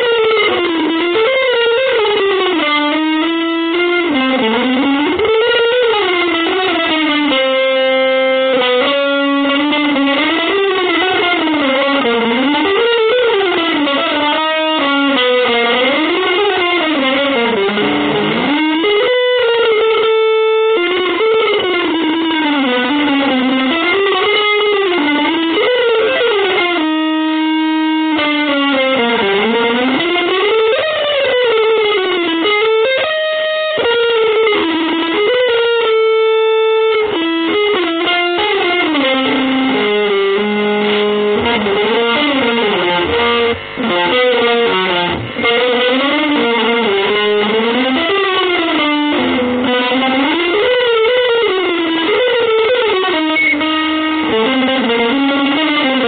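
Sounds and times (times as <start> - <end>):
electric guitar fast runs: 0.0 - 56.0.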